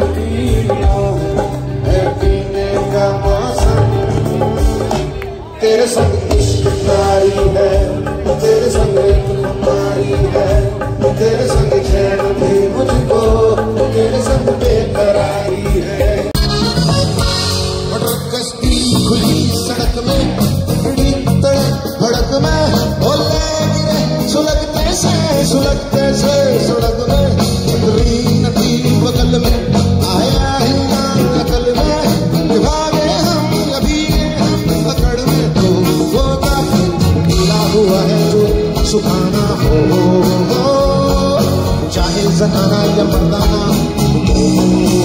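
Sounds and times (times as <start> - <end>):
amplified band playing: 0.0 - 45.0
person singing: 0.0 - 45.0.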